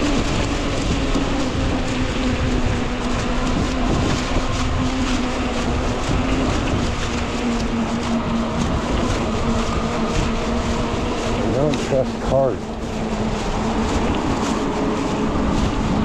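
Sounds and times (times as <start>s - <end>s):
tires and hub motor humming: 0.0s - 16.0s
wind rushing over microphone: 0.0s - 16.0s.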